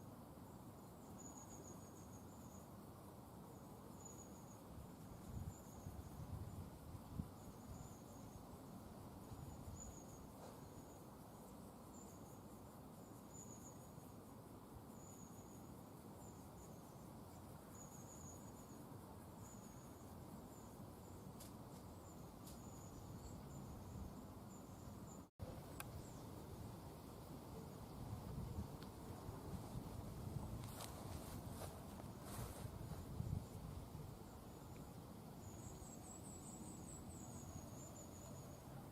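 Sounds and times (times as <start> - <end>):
insect chirping: 0.0 - 38.9
low outdoor ambience: 0.0 - 38.9.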